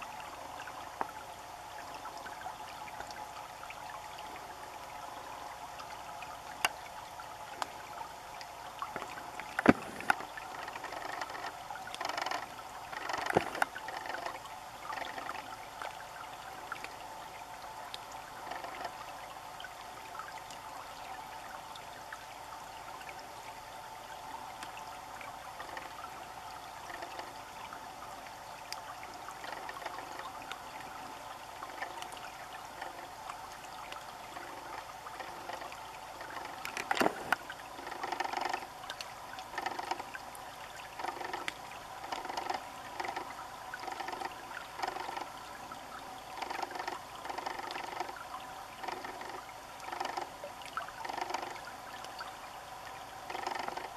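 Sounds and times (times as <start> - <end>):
creek water trickling: 0.0 - 53.9.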